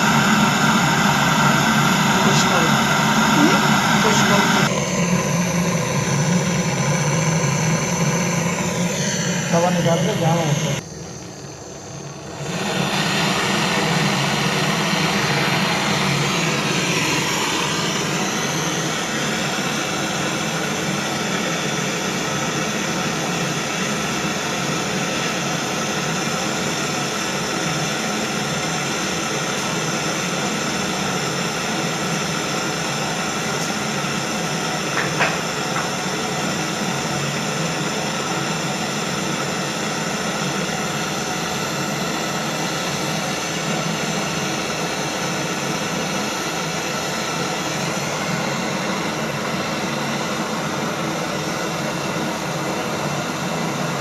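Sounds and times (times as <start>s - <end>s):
machine humming and hissing: 0.0s - 54.0s.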